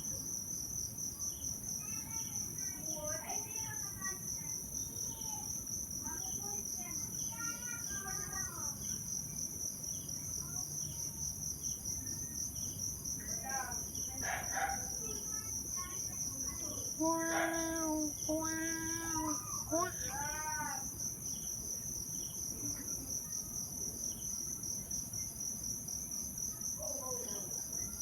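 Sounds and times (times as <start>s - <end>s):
insects trilling chorus: 0.0s - 28.0s.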